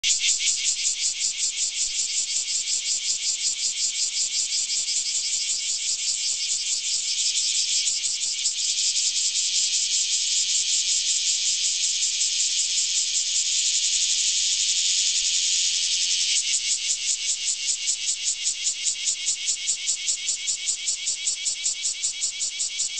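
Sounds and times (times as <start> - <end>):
cicada buzzing: 0.0 - 22.9.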